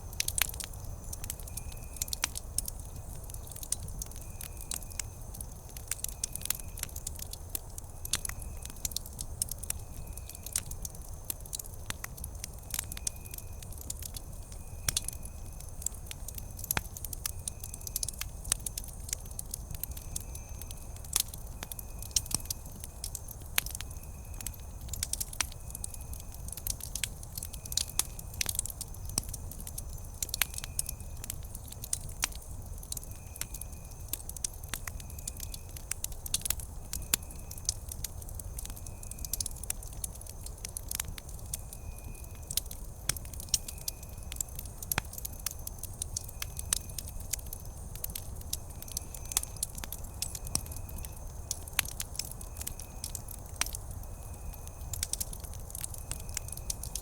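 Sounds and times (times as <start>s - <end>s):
campfire crackling and popping: 0.0s - 57.0s
low rumble of burning: 0.0s - 57.0s.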